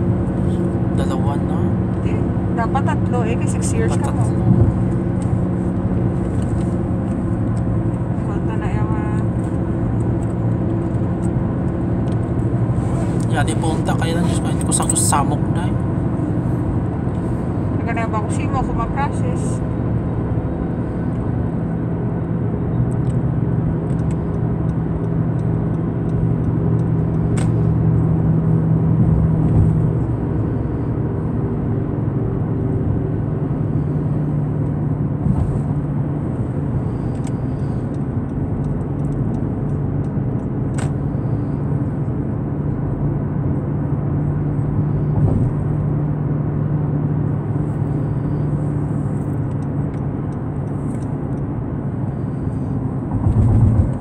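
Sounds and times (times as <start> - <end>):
car engine and tyres droning: 0.0 - 54.0.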